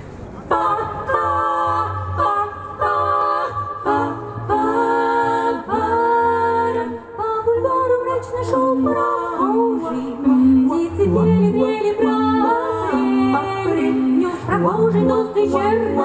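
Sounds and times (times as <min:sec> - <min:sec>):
women singing in close harmony: 0:00.5 - 0:16.0.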